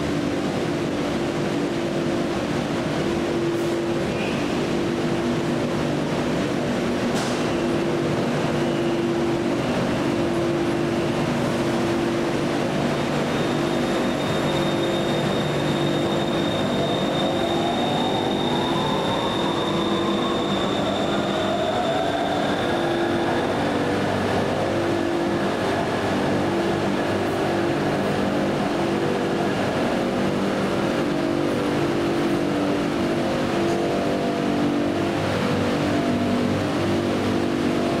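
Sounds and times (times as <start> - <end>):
electric train equipment humming: 0.0 - 38.0.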